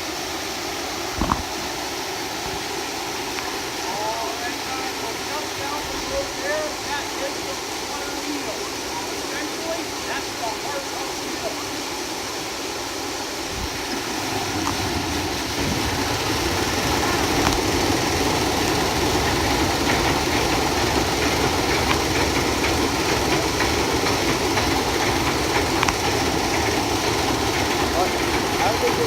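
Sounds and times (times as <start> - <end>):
sawmill machinery sawing log: 0.0 - 29.0.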